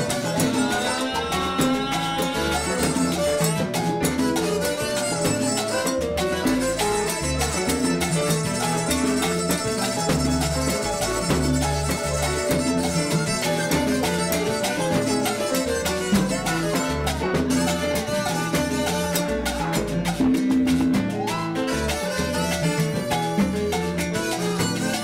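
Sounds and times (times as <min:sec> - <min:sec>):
salsa band playing: 0:00.0 - 0:25.0.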